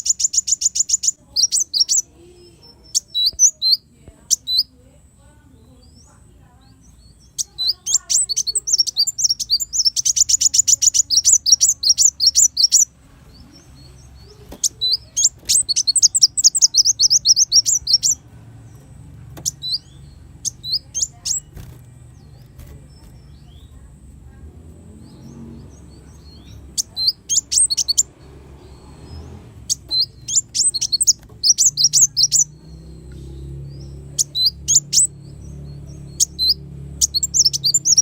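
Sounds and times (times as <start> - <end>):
sunbird chirping: 0.0 - 38.0.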